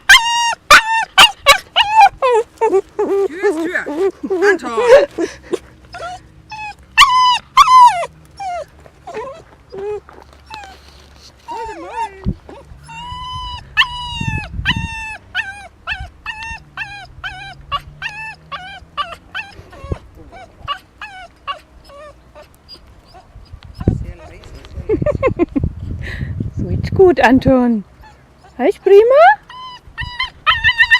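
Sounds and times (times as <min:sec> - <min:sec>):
dog whining: 0:00.0 - 0:24.6, 0:28.0 - 0:30.9.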